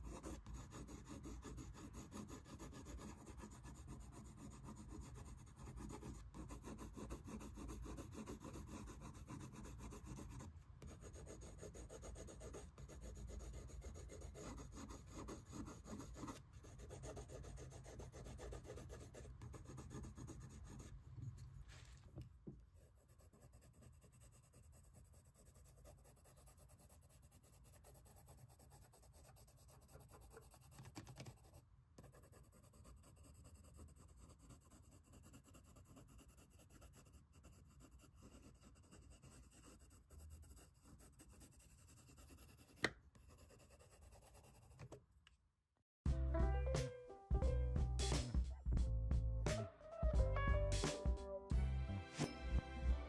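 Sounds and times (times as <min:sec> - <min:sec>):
colored pencil shading on paper: 0:00.0 - 0:21.7, 0:22.8 - 0:45.0.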